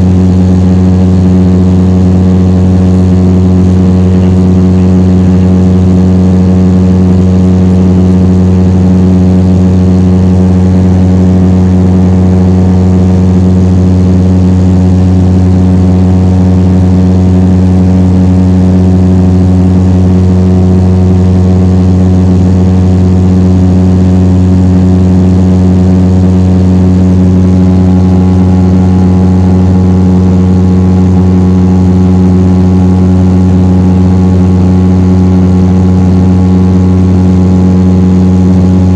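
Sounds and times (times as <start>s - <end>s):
turboprop engines droning: 0.0s - 38.9s.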